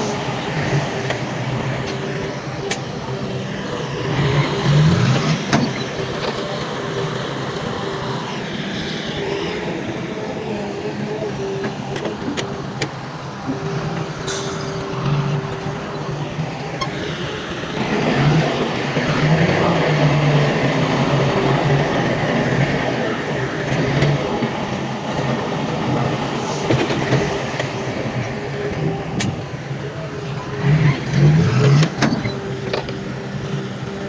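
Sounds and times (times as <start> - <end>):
diesel earthmoving machinery running: 0.0 - 34.0.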